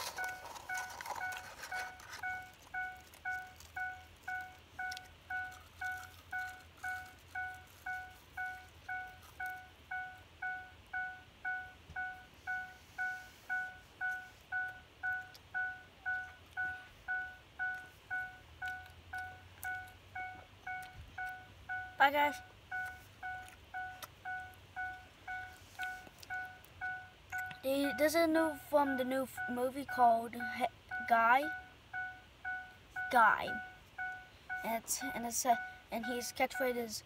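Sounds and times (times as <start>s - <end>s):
vehicle warning chime dinging: 0.0s - 37.0s.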